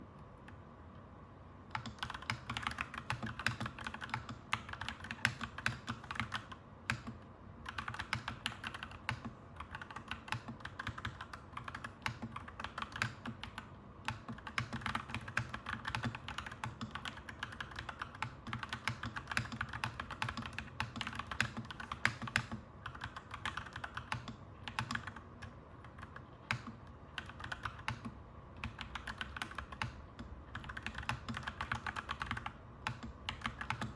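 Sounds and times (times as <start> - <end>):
low background hum: 0.0 - 33.9
mechanical keyboard typing: 1.7 - 33.9.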